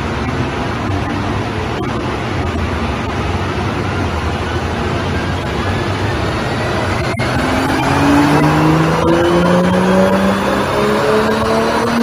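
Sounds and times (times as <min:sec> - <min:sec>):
car engine drone on dyno: 0:00.0 - 0:12.0
roller and tyre noise: 0:00.0 - 0:12.0.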